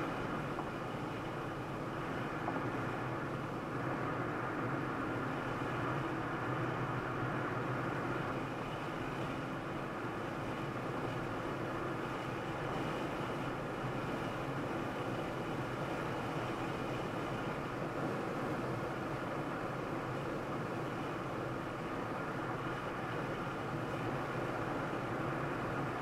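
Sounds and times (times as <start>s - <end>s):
car driving road noise: 0.0s - 26.0s.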